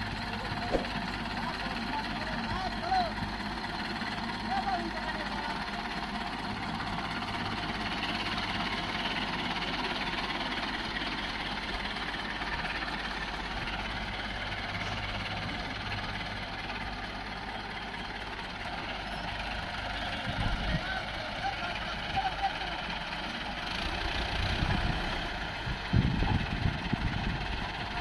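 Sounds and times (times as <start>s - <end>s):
diesel tractor engines running: 0.0s - 28.0s.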